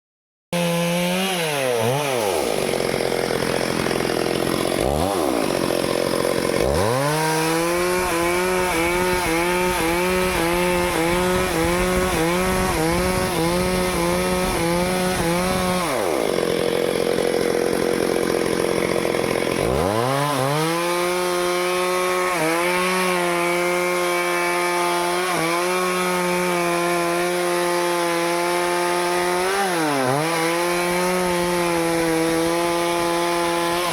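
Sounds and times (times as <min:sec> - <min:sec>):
chainsaw cutting wood: 0:00.5 - 0:33.9.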